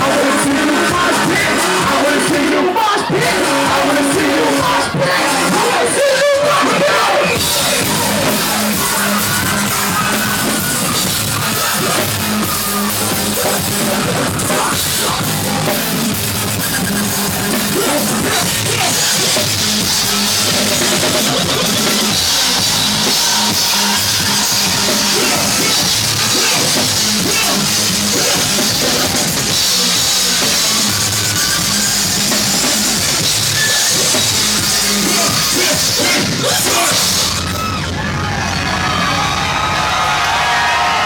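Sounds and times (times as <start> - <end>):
rock drum-kit beat: 0.0 - 37.9
live rock music: 0.0 - 41.0
yelled vocals: 0.0 - 41.0.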